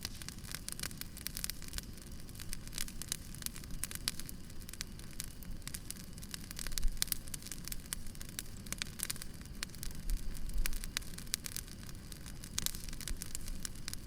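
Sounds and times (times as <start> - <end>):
fire low rumble: 0.0 - 14.0
wood fire crackling and popping: 0.0 - 14.0.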